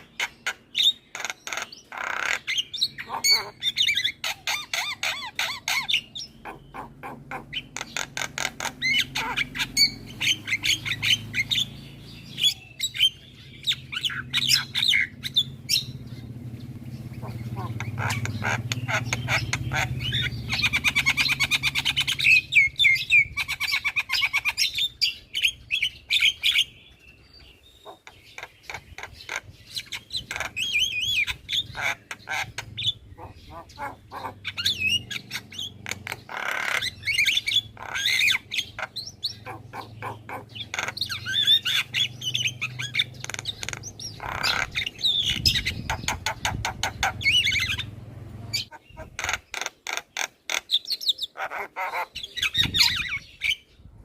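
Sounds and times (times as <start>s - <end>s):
myna bird calling: 0.0s - 53.9s.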